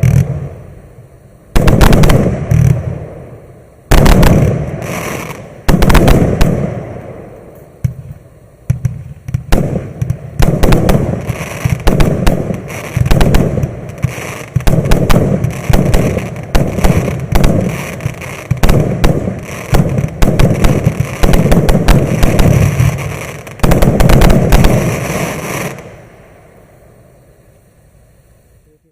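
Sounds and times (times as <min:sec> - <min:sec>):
firework launches and aerial bursts: 0:00.0 - 0:28.8
firework crackling: 0:00.0 - 0:28.9.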